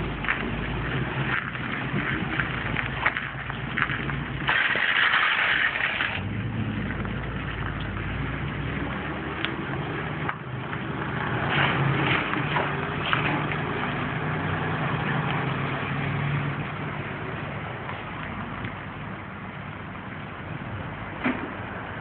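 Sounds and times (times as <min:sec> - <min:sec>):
tow truck engine running: 0:00.0 - 0:05.0, 0:05.6 - 0:22.0.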